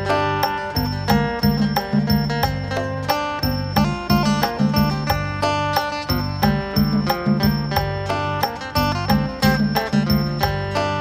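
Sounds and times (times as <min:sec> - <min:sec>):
plucked lute melody: 0:00.0 - 0:11.0.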